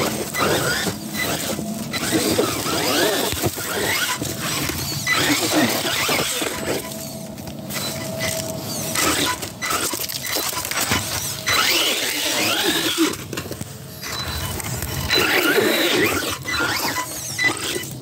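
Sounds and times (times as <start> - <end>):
toy car motor whining: 0.0 - 18.0.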